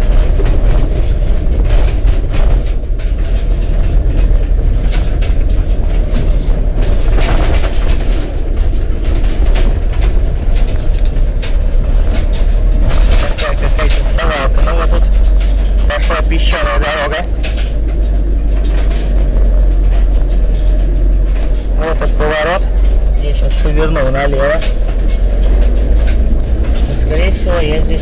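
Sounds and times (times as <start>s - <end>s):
van body rattling over bumps: 0.0s - 28.0s
van engine and tyres rumbling: 0.0s - 28.0s.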